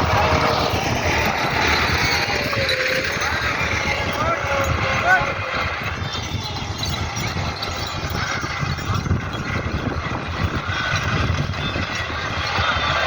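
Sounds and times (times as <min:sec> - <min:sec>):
tractor engine chugging: 0:00.0 - 0:13.0.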